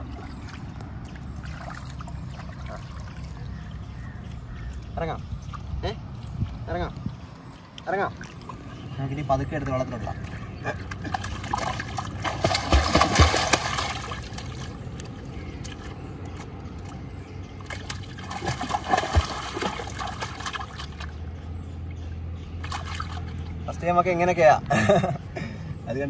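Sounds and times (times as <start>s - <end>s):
river water splashing at bank: 0.0s - 21.4s, 22.6s - 23.7s.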